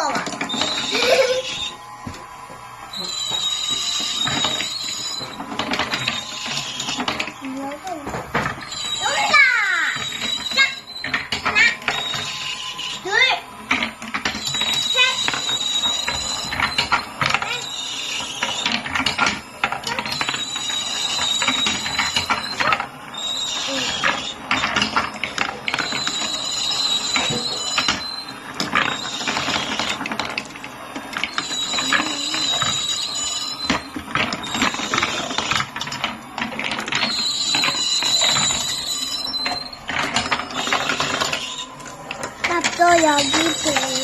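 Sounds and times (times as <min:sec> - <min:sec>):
marbles clacking down wooden run: 0:00.0 - 0:01.6, 0:03.1 - 0:44.0
high ringing tone: 0:00.0 - 0:44.0.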